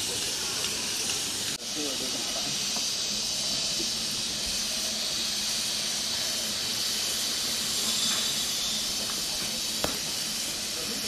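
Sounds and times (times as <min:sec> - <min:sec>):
meat sizzling on a grill: 0:00.0 - 0:11.0
sauce hissing on heat: 0:00.0 - 0:11.0.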